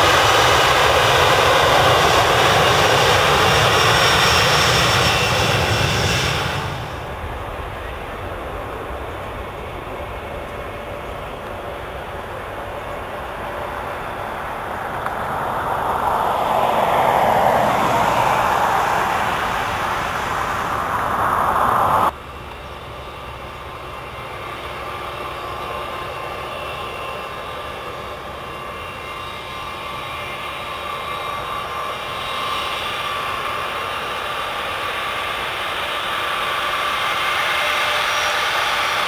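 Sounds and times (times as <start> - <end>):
jet engines roaring: 0.0 - 39.0
jet engines spooling up: 0.0 - 39.0.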